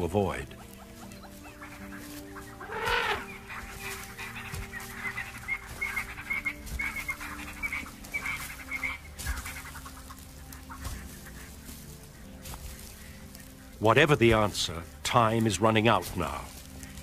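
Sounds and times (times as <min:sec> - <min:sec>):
birds clucking calls: 0:00.0 - 0:17.0.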